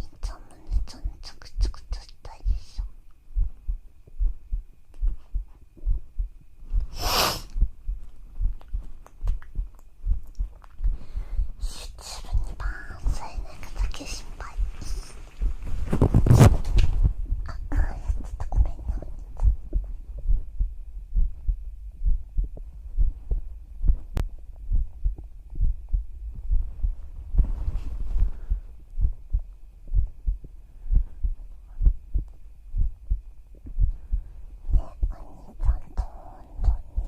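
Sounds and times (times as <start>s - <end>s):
faint steady hum: 0.0s - 37.0s
heartbeat thumps: 0.0s - 37.0s.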